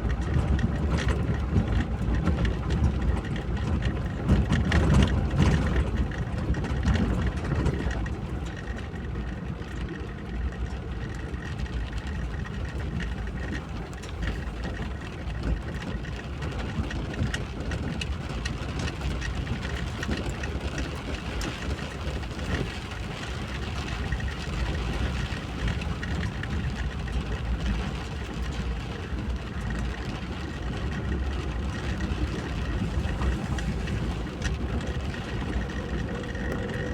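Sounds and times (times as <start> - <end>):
car engine and road noise: 0.0 - 36.9.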